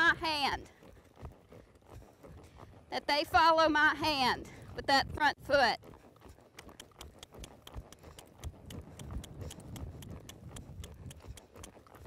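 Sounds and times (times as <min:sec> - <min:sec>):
horse hoofbeats on soft dirt: 0:00.0 - 0:12.0.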